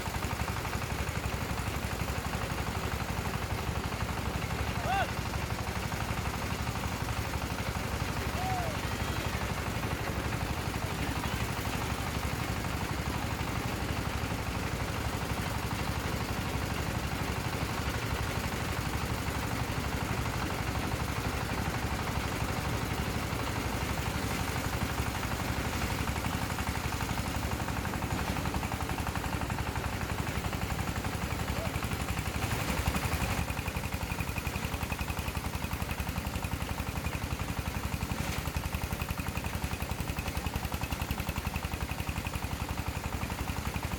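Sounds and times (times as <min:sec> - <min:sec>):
small engine running: 0:00.0 - 0:43.9.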